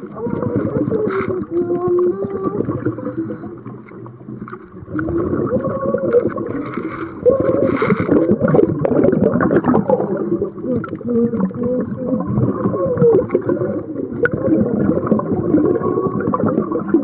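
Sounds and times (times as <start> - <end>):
underwater gurgling water: 0.0 - 17.0.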